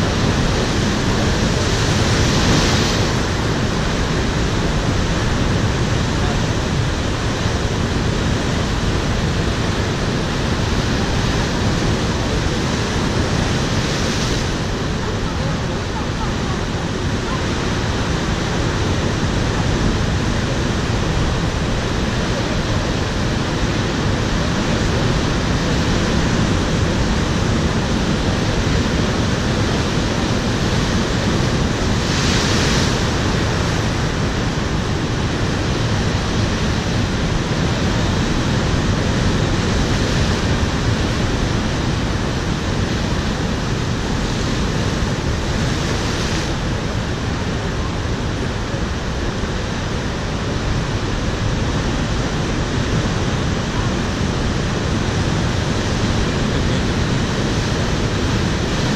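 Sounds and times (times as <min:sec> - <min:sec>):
surf breaking over rocks: 0:00.0 - 0:58.9
wave crashing against rocks: 0:00.0 - 0:58.9.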